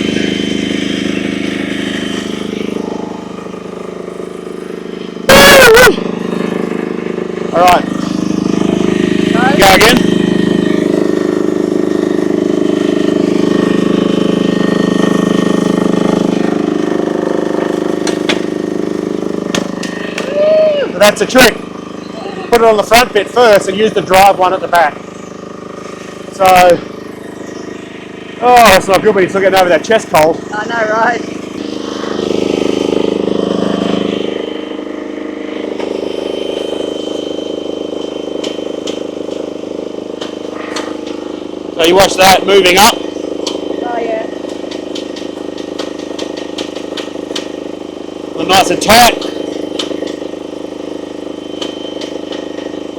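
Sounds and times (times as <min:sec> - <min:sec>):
excavator engine running: 0:00.0 - 0:52.9
hydraulic track drive turning: 0:00.0 - 0:52.9.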